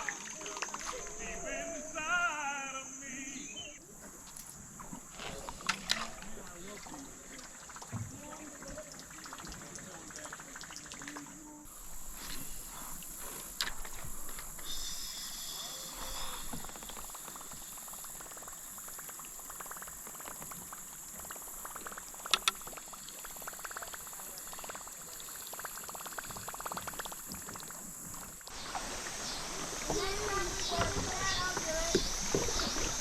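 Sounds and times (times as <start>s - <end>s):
river water burbling: 0.0s - 33.0s
steady high-pitched hiss: 0.0s - 33.0s.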